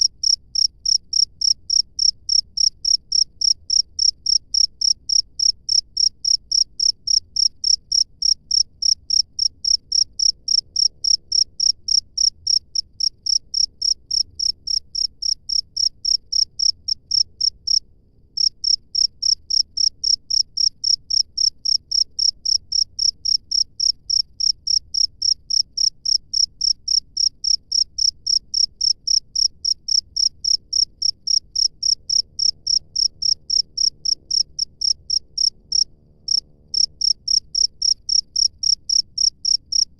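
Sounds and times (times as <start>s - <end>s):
cricket chirping: 0.0s - 17.8s, 18.4s - 39.9s.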